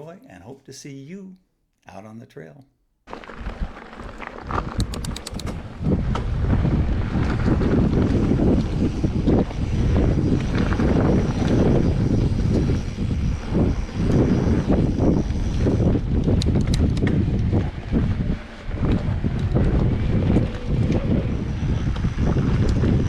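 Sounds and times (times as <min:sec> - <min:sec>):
mountain bike rumbling on dirt: 0:03.1 - 0:23.0
wind buffeting microphone: 0:03.4 - 0:23.0.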